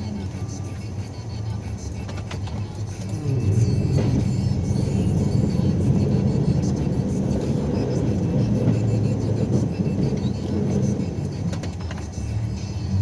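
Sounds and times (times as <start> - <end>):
snowplow engine running: 0.0 - 13.0.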